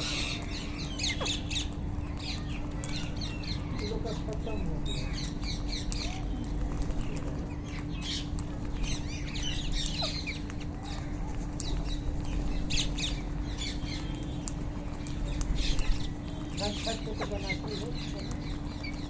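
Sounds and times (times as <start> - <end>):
parakeets squawking: 0.0 - 14.4, 15.1 - 19.0
low steady hum: 0.0 - 19.0.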